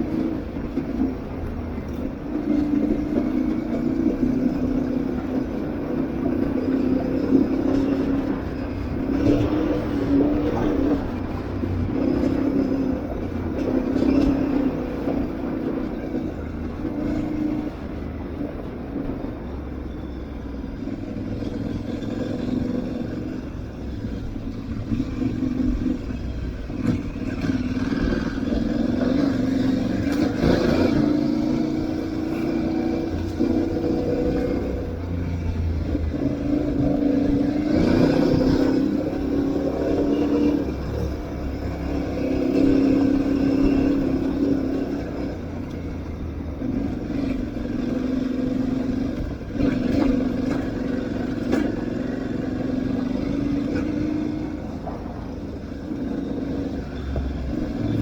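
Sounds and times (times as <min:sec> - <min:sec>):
constant noise bed: 0:00.0 - 0:58.0
motorcycle engine revving: 0:00.0 - 0:58.0.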